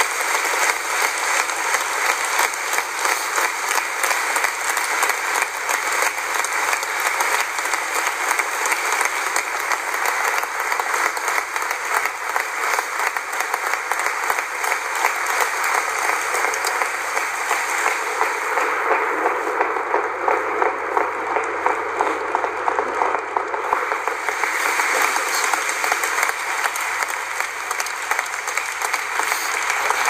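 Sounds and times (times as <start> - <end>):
crowd applauding: 0.0 - 30.0.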